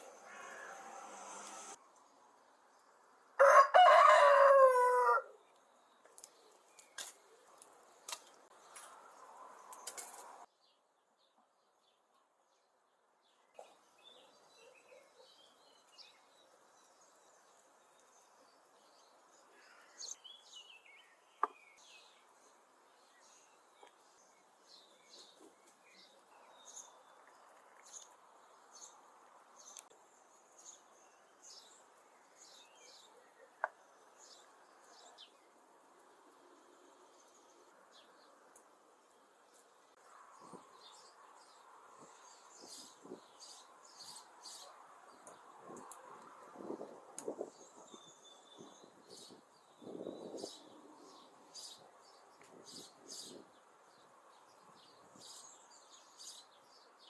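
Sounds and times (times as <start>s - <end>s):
small birds chirping: 5.3s - 57.0s.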